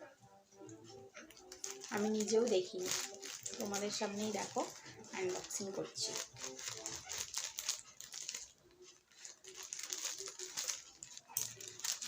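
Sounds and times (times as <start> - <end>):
packaging crinkling and tearing: 1.3 - 12.0.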